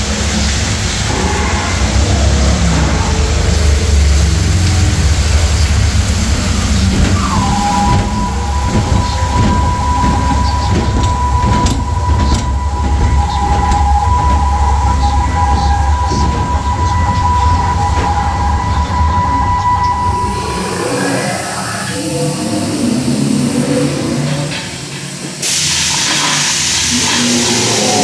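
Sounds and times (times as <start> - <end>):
ride boat machinery rumbling: 0.0 - 28.0.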